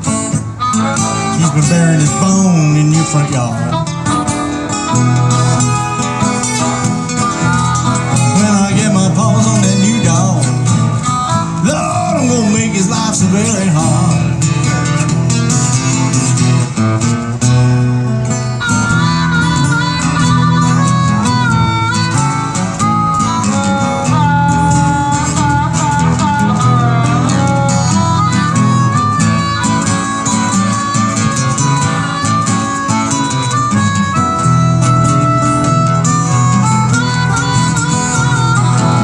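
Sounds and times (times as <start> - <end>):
harmonica with bent notes: 0.0 - 39.0
strummed acoustic guitars: 0.0 - 39.0.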